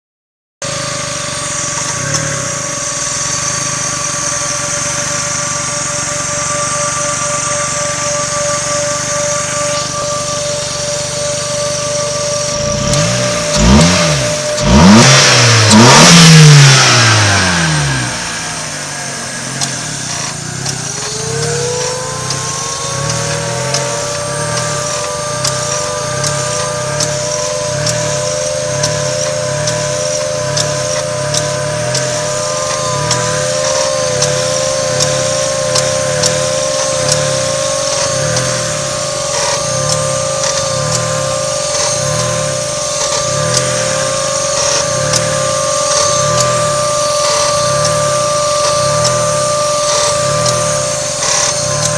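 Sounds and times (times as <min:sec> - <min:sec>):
car engine idling: 0:00.6 - 0:51.9
steady whine: 0:00.6 - 0:51.9.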